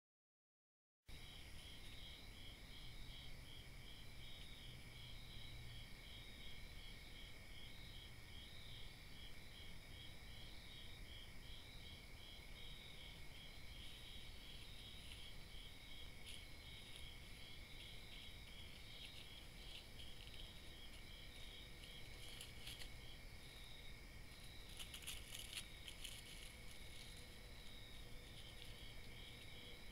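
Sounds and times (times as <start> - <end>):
cricket chirping: 1.1 - 29.9
high-pitched insect trills: 1.1 - 29.9.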